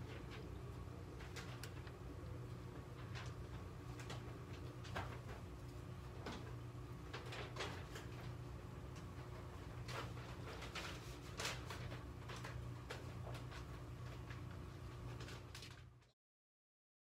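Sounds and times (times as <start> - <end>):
aquarium equipment humming: 0.0 - 16.1.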